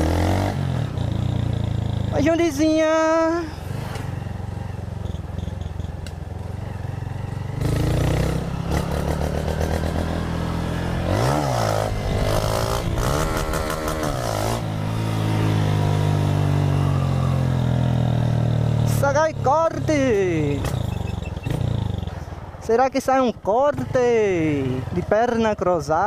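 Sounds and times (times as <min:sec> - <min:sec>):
motorcycle engine revving: 0:00.0 - 0:22.3.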